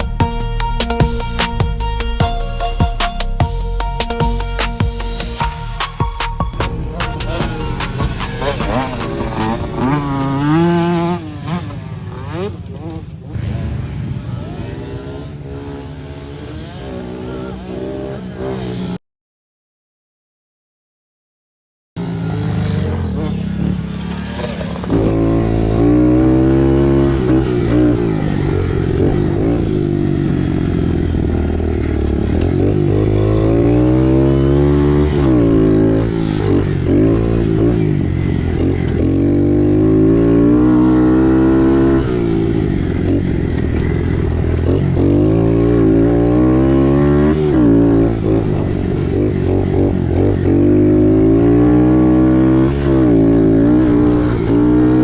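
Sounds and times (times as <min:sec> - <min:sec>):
motocross bike engine revving: 0:00.0 - 0:19.0, 0:22.0 - 0:55.0.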